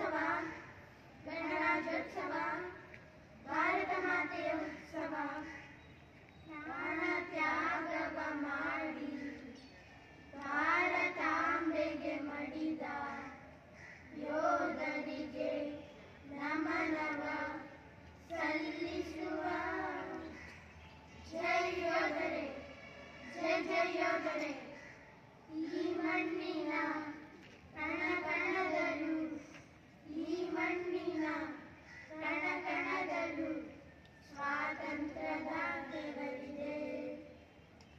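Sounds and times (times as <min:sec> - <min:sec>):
children singing together: 0:00.0 - 0:05.6, 0:06.5 - 0:09.6, 0:10.4 - 0:13.5, 0:14.1 - 0:20.5, 0:21.2 - 0:24.9, 0:25.5 - 0:37.3.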